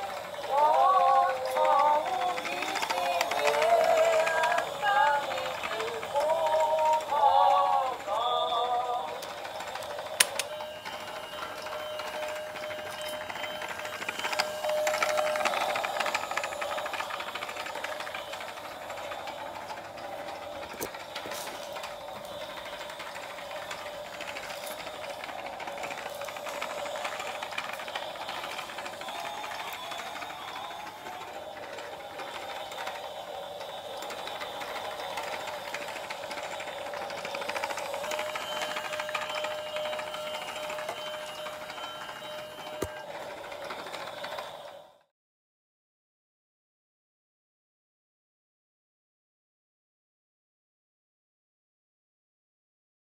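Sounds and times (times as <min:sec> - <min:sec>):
toy train rattling: 0:00.0 - 0:45.1.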